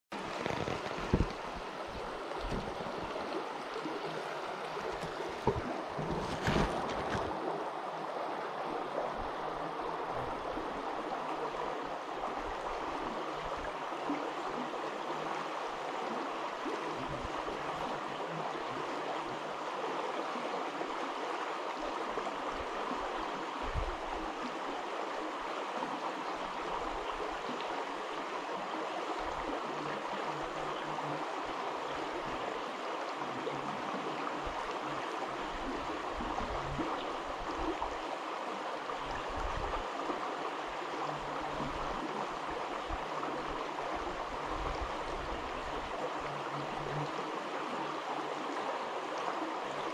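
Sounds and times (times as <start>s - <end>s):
creek water over rocks: 0.1s - 49.9s.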